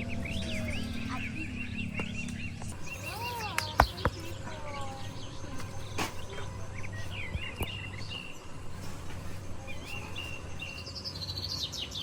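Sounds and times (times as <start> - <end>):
low hum: 0.0 - 11.5
bird chirping: 0.0 - 12.0.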